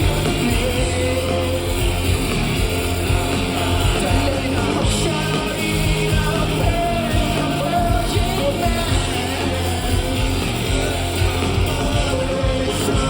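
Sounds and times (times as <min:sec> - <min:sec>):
man singing: 0:00.0 - 0:13.0
rock band playing: 0:00.0 - 0:13.0.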